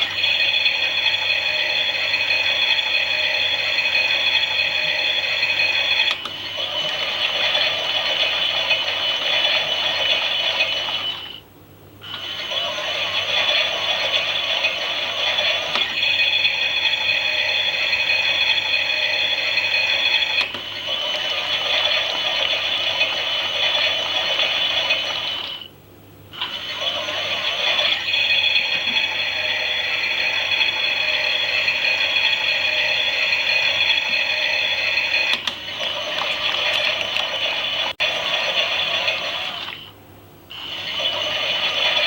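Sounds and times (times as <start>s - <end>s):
toy washing machine motor whine: 0.0s - 25.7s, 26.3s - 42.0s.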